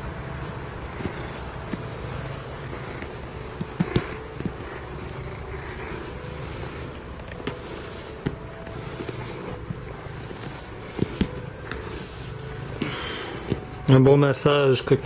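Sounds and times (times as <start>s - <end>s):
glove rustling through cat fur: 0.0s - 15.0s.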